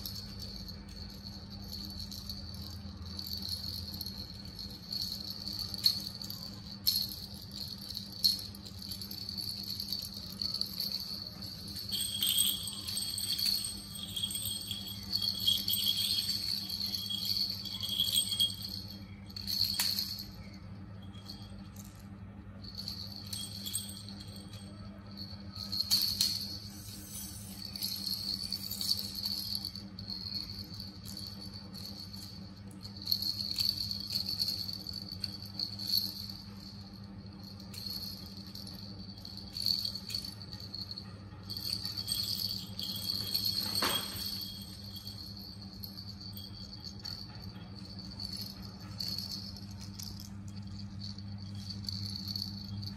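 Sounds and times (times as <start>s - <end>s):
plastic rattle toys jingling: 0.0s - 52.9s.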